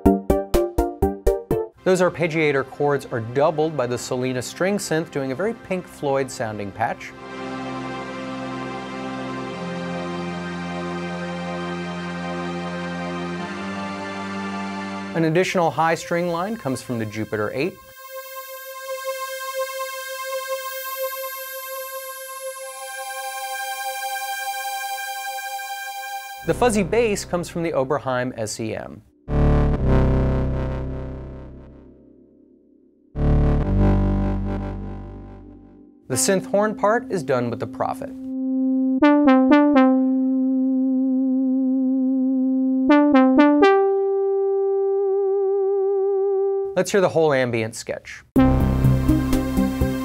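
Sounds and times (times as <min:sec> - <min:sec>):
synthesizer string pad notes: 0:01.8 - 0:27.9, 0:33.2 - 0:46.7, 0:48.4 - 0:50.0.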